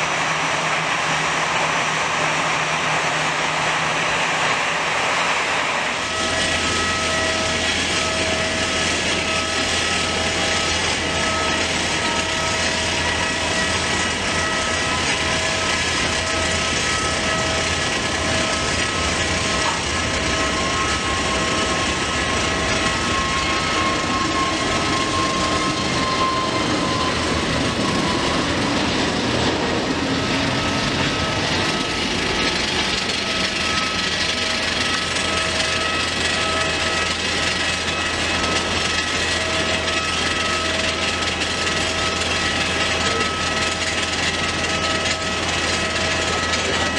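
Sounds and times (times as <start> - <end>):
jet engines roaring: 0.0 - 46.9.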